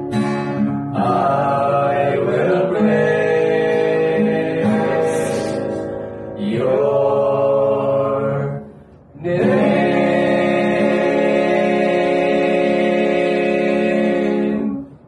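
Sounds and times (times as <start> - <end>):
men singing in harmony: 1.0 - 5.8, 6.4 - 14.9.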